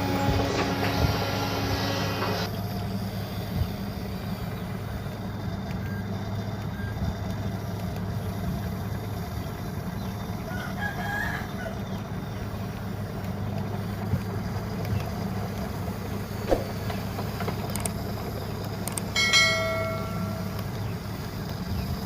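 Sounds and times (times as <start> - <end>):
bulldozer engine humming: 0.0 - 22.0.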